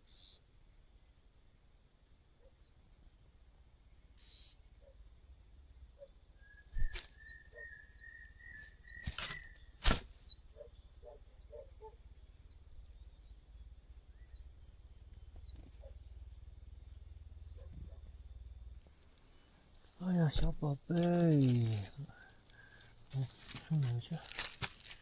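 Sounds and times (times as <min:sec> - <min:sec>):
nestling birds cheeping: 0:02.4 - 0:25.0.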